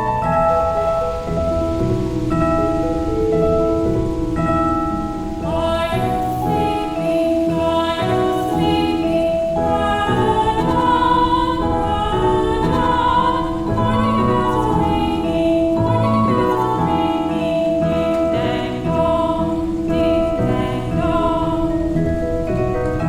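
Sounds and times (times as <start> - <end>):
slow calm music: 0.0 - 23.0.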